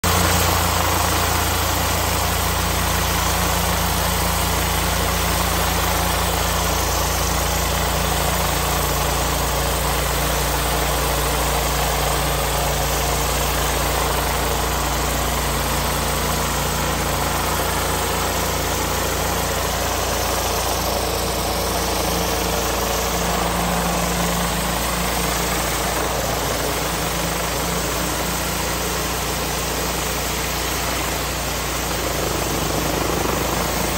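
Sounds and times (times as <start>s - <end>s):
pressure washer engine hum: 0.0s - 33.9s.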